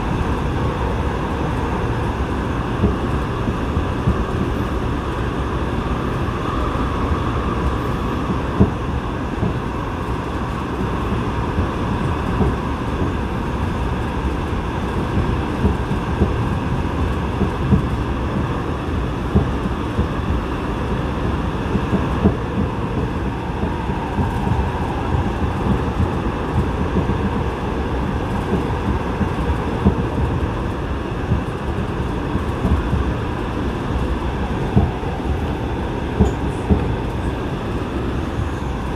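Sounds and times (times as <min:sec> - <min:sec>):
wheels rumbling on rail: 0:00.0 - 0:38.9.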